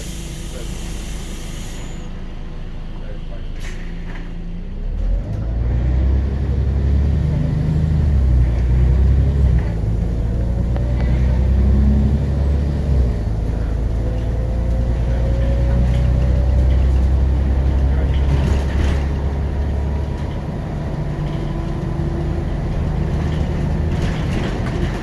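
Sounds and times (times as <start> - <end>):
bus diesel engine accelerating: 0.0 - 25.0.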